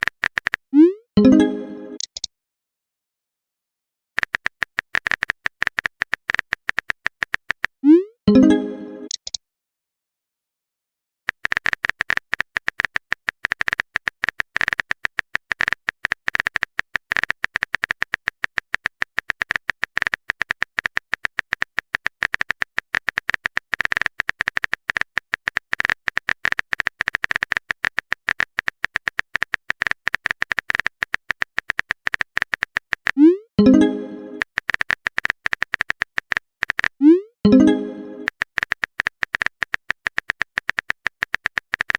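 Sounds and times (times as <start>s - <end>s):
rapid typing ticks: 0.0s - 0.8s, 4.2s - 7.8s, 11.3s - 37.0s, 37.6s - 41.9s.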